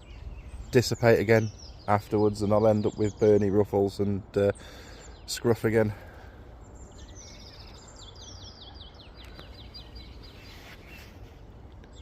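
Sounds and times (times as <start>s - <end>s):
songbird high chirps: 0.0s - 12.0s.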